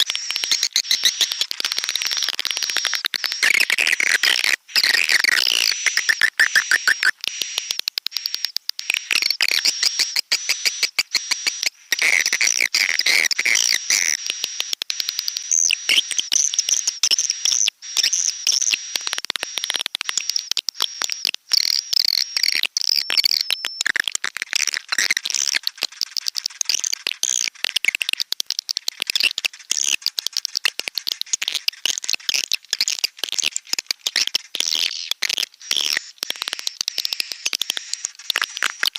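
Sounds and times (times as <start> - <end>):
swiftlets twittering and chirping: 0.0 - 38.9.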